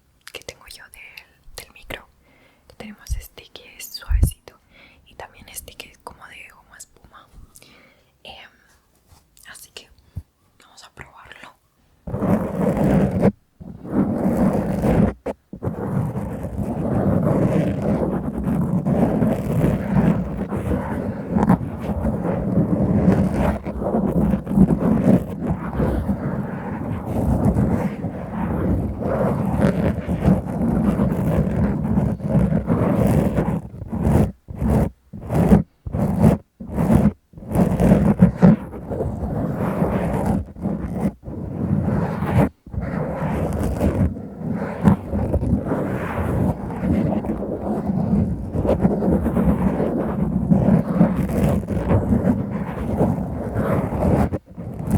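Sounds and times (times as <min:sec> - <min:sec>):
scratching on microphone foam: 0:02.8 - 0:04.4, 0:05.2 - 0:07.4, 0:11.0 - 0:54.9.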